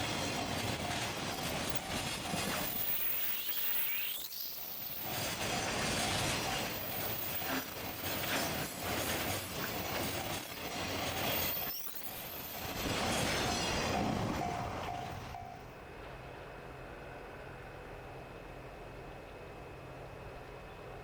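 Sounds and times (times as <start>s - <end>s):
harsh train wheel noise: 0.0s - 20.3s
freight train passing: 0.0s - 21.0s.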